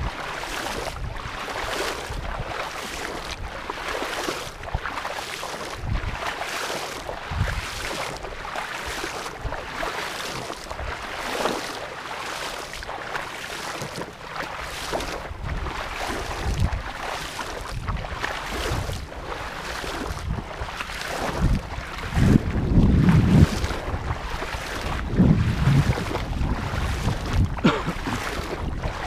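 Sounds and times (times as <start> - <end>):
wading through shallow water: 0.0 - 29.0.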